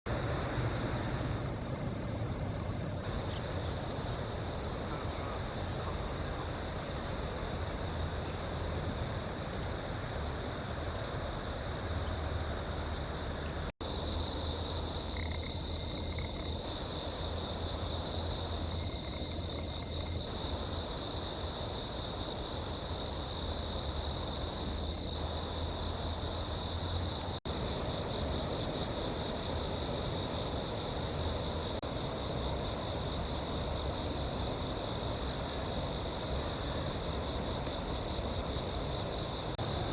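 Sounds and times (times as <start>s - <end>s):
insects trilling: 0.1s - 39.9s.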